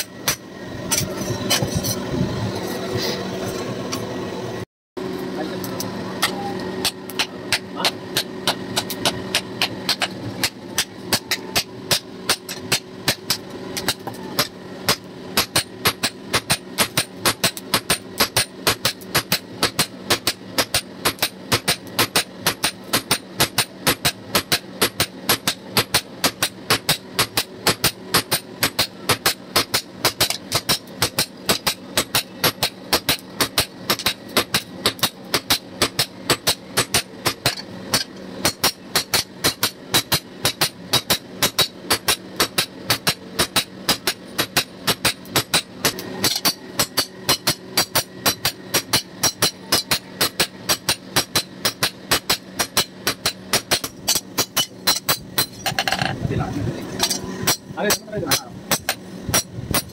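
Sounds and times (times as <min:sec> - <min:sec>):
hammer beating steel on anvil: 0:06.2 - 0:56.1, 0:57.0 - 0:59.9.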